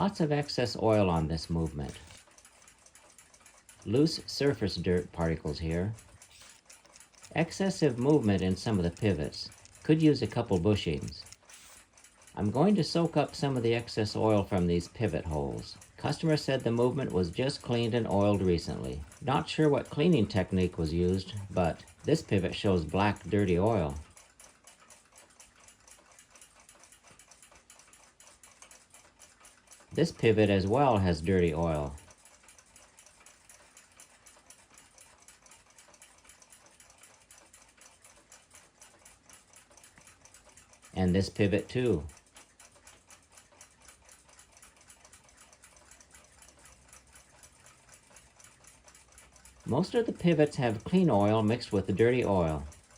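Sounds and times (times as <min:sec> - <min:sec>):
mechanical clock ticking: 0:00.0 - 0:52.9.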